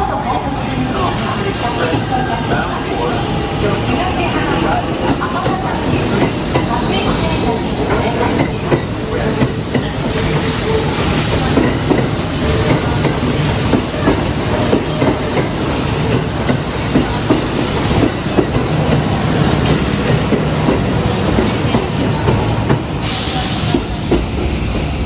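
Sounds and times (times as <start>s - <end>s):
train rumble: 0.0s - 25.0s
train wheels clacking over rail joints: 3.2s - 24.9s.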